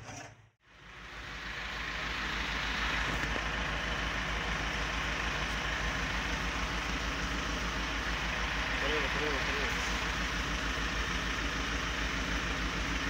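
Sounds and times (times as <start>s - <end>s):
engine running with low throb: 0.6s - 13.0s.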